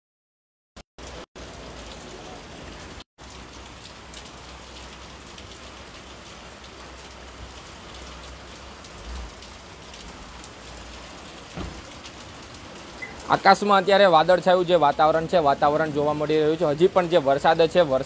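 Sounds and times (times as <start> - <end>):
rain falling: 1.0 - 18.0.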